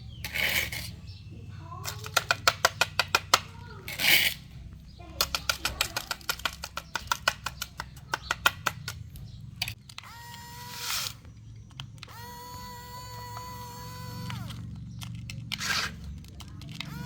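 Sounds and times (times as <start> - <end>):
rapid plastic clicking: 1.6 - 17.0.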